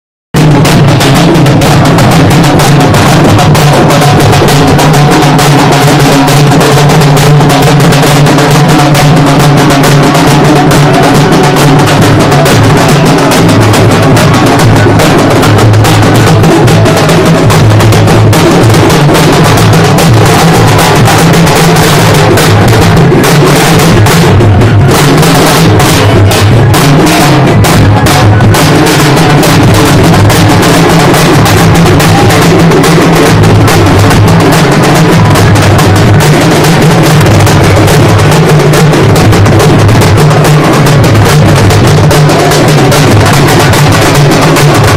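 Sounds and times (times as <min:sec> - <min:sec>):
frame drum beaten fast: 0:00.3 - 0:44.9.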